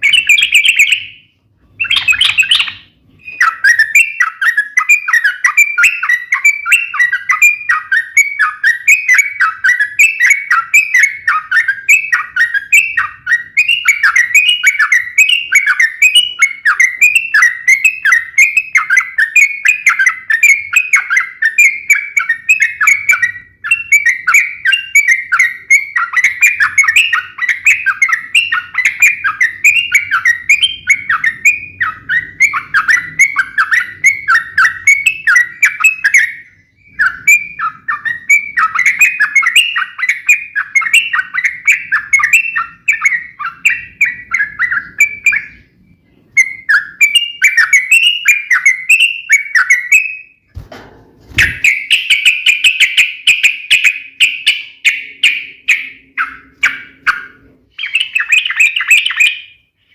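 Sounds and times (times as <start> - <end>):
bird chirping rapidly: 0.0 - 50.6, 51.3 - 59.9.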